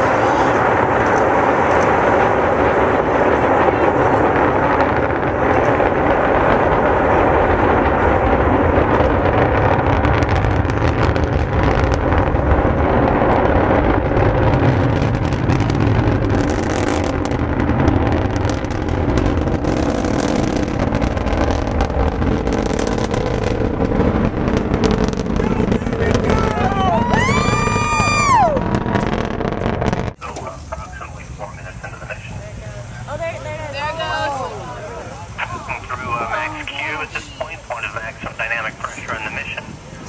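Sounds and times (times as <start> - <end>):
rocket engine rumble with crackle: 0.0 - 40.0.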